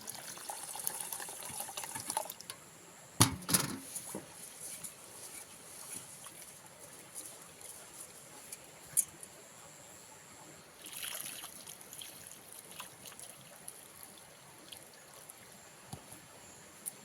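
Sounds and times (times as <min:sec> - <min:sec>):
faint trickling water: 0:00.0 - 0:02.7, 0:04.0 - 0:17.0.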